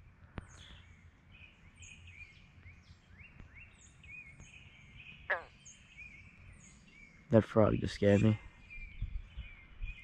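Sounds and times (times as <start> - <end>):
faint birdsong: 0.0 - 10.0.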